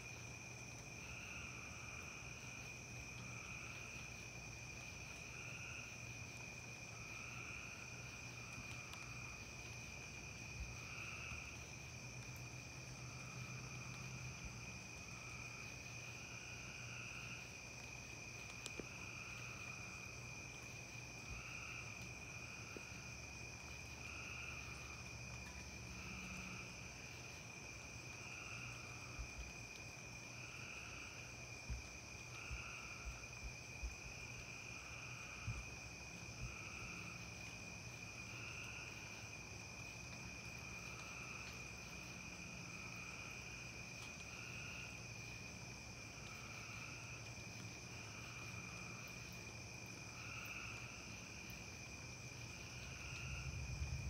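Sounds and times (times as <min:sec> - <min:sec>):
crickets trilling: 0:00.0 - 0:54.0
slower pulsing insect call: 0:00.0 - 0:54.0.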